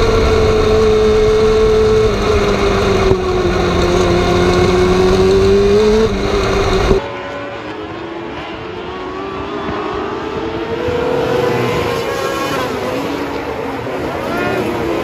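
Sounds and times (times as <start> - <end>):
race car engine revving: 0.0 - 15.0
race car engines from trackside: 0.0 - 15.0.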